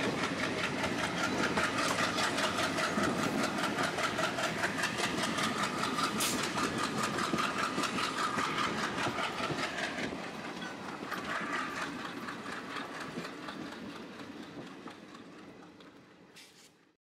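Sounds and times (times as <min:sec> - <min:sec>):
train wheels clicking over rail joints: 0:00.0 - 0:16.9
train rumble: 0:00.0 - 0:17.0.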